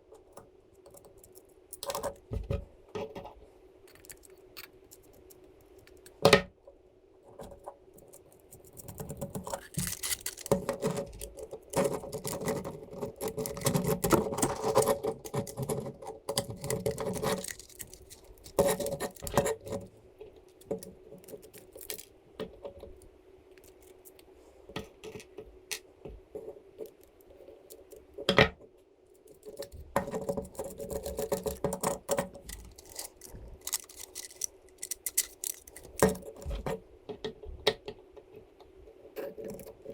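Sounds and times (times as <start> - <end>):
small parts clicking and rattling: 0.0 - 6.4, 7.3 - 28.4, 29.1 - 37.4
faint steady hum: 0.0 - 39.9.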